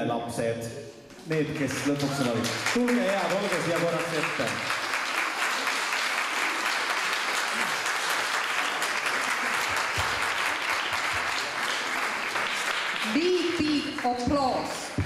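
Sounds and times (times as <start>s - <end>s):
audience applauding: 1.4s - 15.0s.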